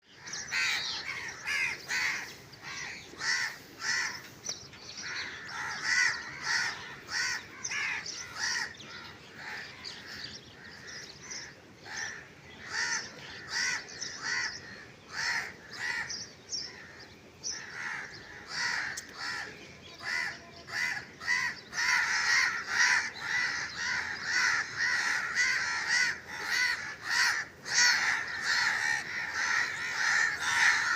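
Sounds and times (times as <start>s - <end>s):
crows cawing: 0.1s - 30.9s.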